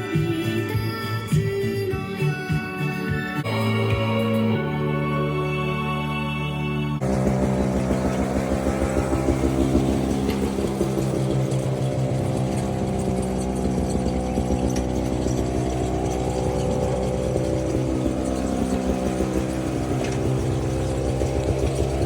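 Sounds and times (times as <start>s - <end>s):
small engine running: 3.4s - 22.0s.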